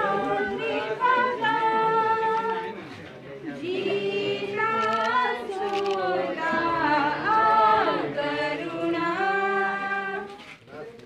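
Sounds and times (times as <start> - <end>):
group of voices singing: 0.0 - 10.5.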